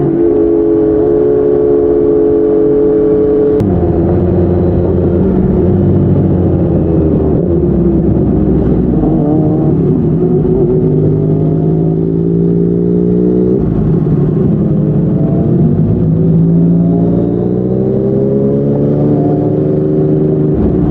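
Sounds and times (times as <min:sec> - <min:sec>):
motorcycle engine at speed: 0:00.0 - 0:20.9.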